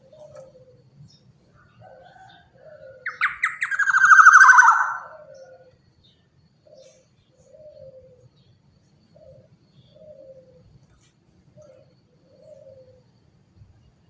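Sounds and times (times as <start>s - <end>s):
faint low cooing bird calls: 0.0s - 14.0s.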